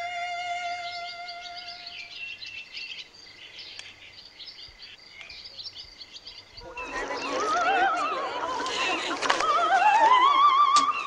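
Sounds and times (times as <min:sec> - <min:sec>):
small birds chirping: 0:00.1 - 0:09.6.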